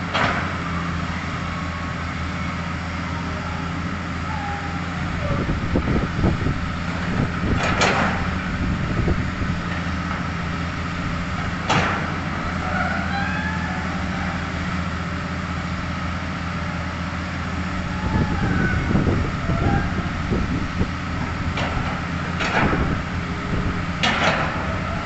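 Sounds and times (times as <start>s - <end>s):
excavator diesel engine running: 0.0s - 25.0s
faint hydraulic whines: 0.0s - 25.0s.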